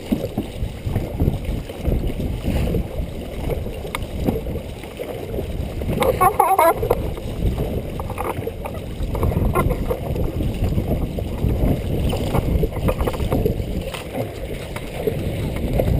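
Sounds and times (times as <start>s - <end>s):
water rushing and splashing: 0.0s - 15.9s.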